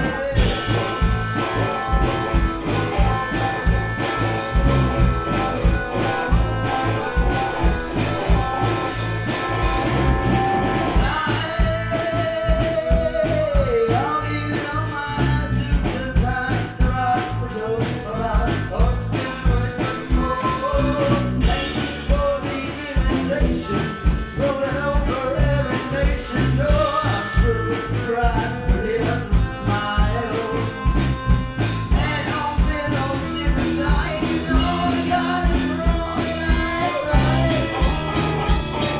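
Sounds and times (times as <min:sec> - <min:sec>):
accordion: 0:00.0 - 0:38.9
bass: 0:00.0 - 0:38.9
drum kit: 0:00.0 - 0:38.9
guitar: 0:00.0 - 0:38.9
person singing: 0:00.0 - 0:38.9.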